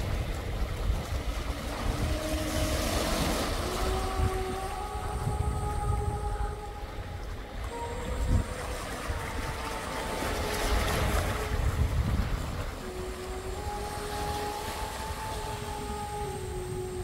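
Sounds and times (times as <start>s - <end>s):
waves washing over rocks: 0.0s - 17.0s
wind buffeting microphone: 0.0s - 17.0s
faint held tone: 1.7s - 17.0s.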